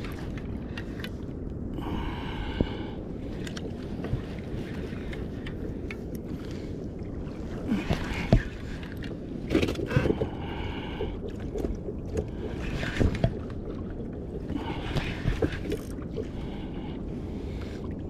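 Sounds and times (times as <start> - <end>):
water lapping against kayak hull: 0.0 - 18.0.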